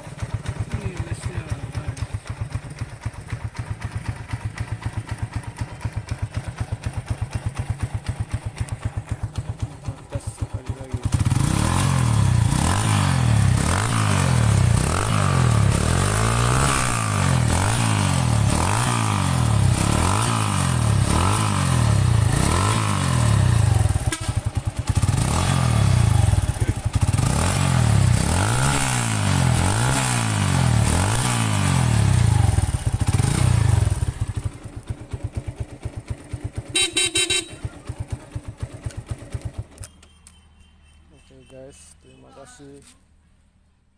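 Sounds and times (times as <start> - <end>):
motorcycle engine revving: 0.0 - 40.2.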